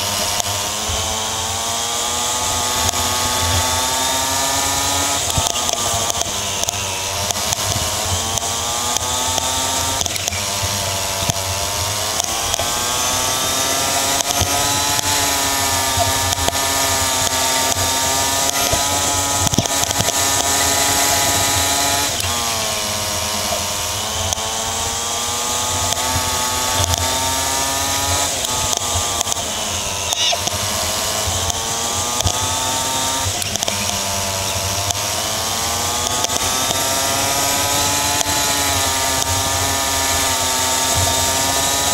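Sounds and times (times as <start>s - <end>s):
go-kart engine racing: 0.0s - 41.9s.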